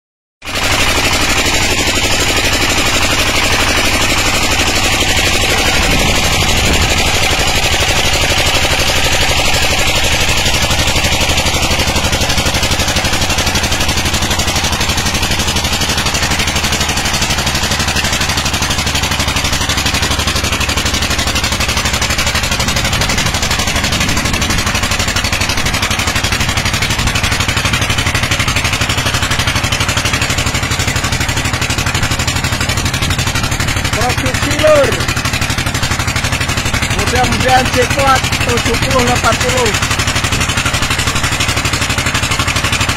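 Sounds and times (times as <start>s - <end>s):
diesel engine running loudly: 0.4s - 42.9s.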